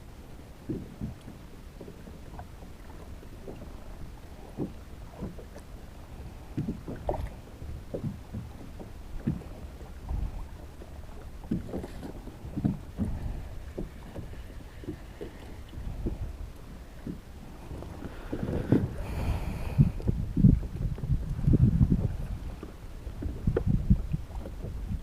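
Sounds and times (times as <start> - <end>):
water lapping against kayak hull: 0.0 - 25.0
wind rumble on microphone: 0.0 - 25.0.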